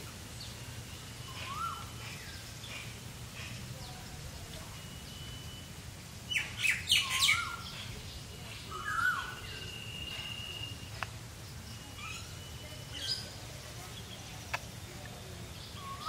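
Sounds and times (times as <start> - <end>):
birds chirping and whistling: 0.4 - 5.7, 6.3 - 14.3, 15.5 - 16.0.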